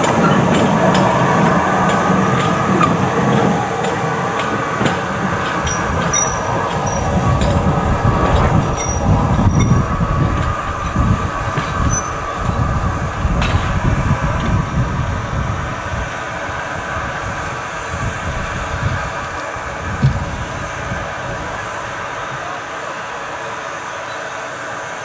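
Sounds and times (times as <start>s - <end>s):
steam locomotive wheels rumbling: 0.0s - 25.0s.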